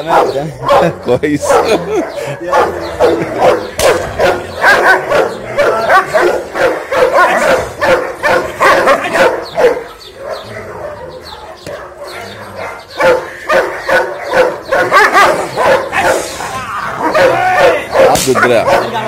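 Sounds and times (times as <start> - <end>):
dog barking aggressively: 0.0 - 19.0.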